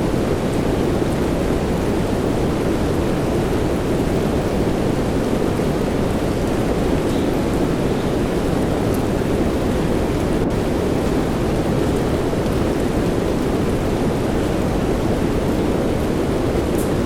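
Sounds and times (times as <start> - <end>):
steady soft rain: 0.0 - 17.0.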